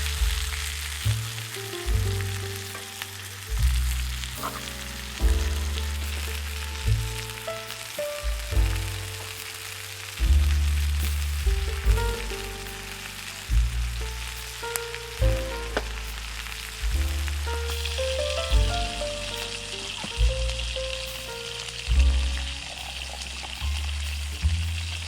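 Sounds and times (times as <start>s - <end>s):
food sizzling in frying: 0.0s - 25.0s
slow melody over bass notes: 0.0s - 25.0s.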